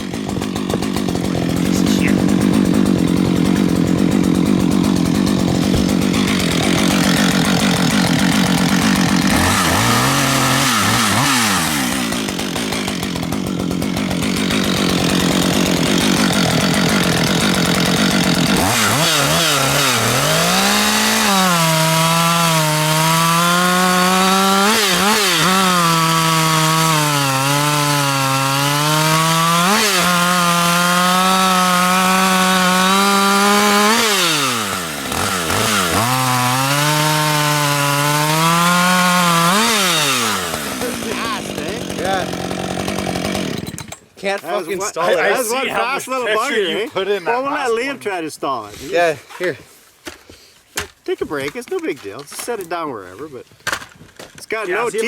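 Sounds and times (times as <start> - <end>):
chainsaw cutting through log: 0.0 - 47.9, 53.7 - 55.0.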